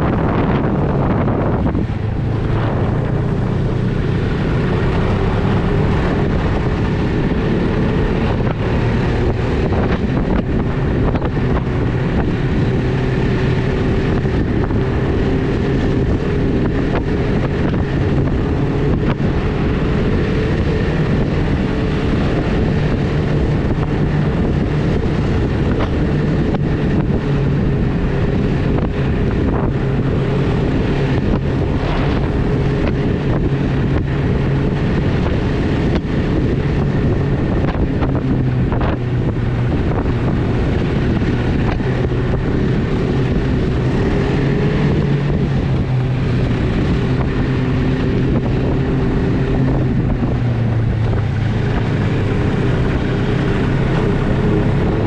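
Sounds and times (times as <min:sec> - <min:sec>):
snowmobile engine running: 0:00.0 - 0:55.0
wind buffeting microphone: 0:00.0 - 0:55.0.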